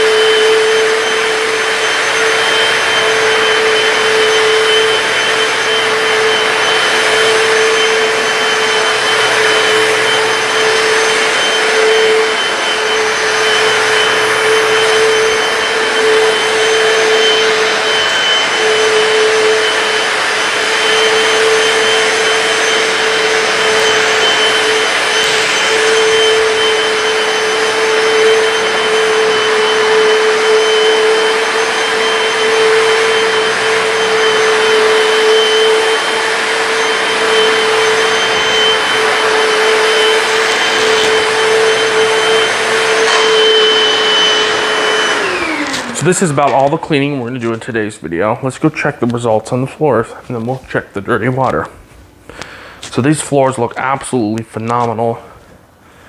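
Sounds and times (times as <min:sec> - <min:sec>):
floor cleaner motor drone: 0:00.0 - 0:56.0.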